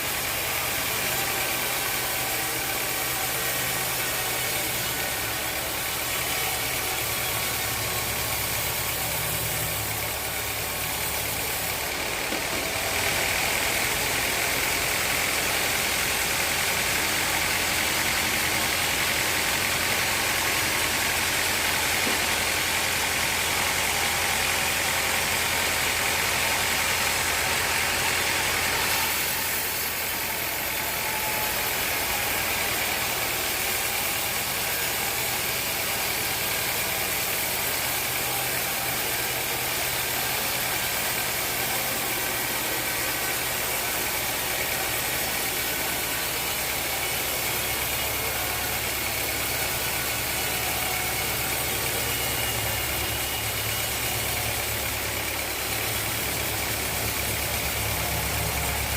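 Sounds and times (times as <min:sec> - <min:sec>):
high-pitched machine whine: 0:00.0 - 0:58.9
sawmill machinery running: 0:00.0 - 0:58.9.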